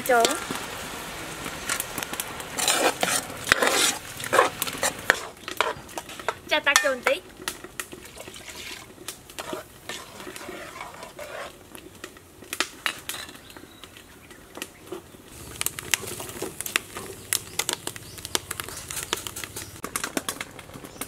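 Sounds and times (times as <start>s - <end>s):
firewood crackling and popping: 0.0s - 21.0s
flames rumbling: 0.0s - 21.0s.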